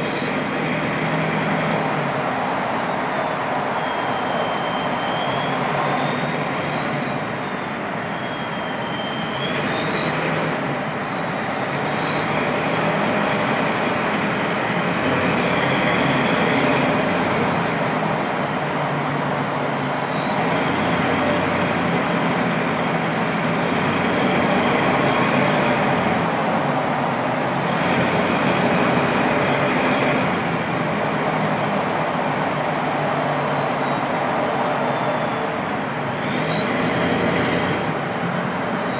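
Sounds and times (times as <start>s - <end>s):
diesel engine rumble: 0.0s - 38.9s
turbo whistle: 0.0s - 38.9s.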